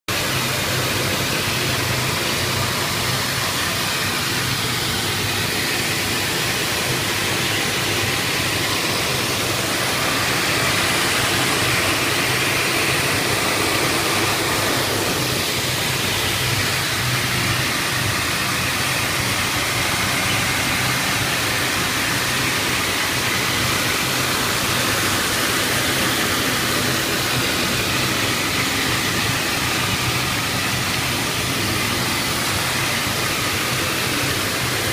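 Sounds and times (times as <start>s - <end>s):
cleaning machine hiss and hum: 0.1s - 34.9s.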